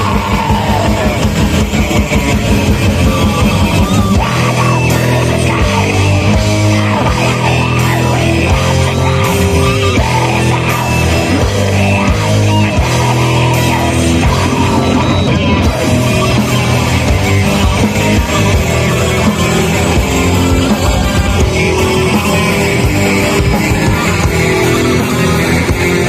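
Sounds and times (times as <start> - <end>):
bass guitar: 0.0 - 26.0
distorted electric guitars: 0.0 - 26.0.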